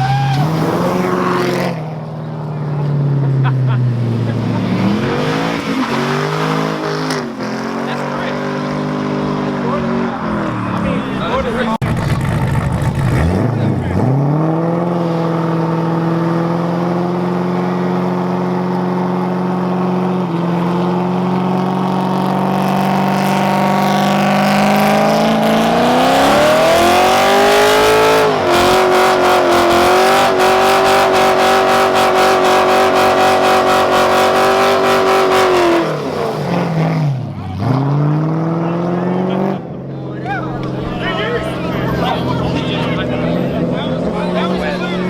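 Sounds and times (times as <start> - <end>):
car engine at high revs: 0.0 - 45.0.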